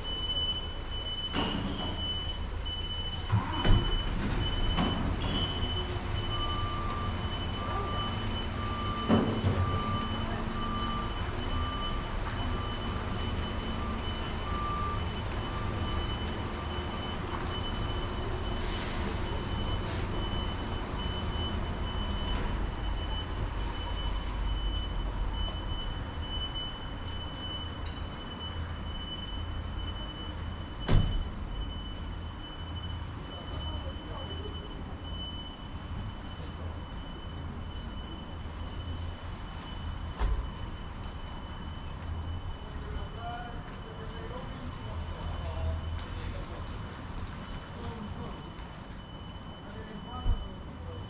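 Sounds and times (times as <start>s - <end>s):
reversing beeper: 0.0s - 51.0s.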